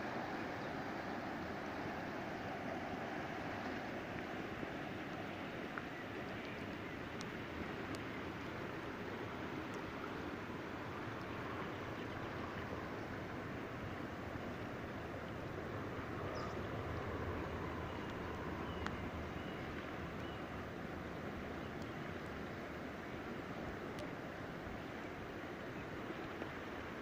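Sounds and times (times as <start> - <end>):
river water rushing over riffles: 0.0 - 27.0.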